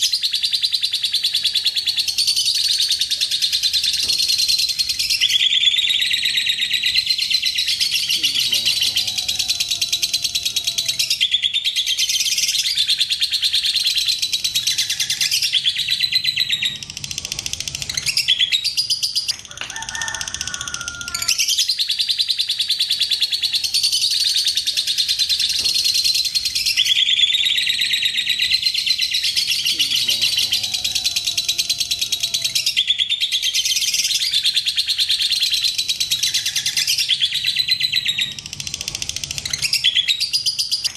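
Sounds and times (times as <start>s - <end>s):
lovebird chattering trill: 0.0s - 40.9s.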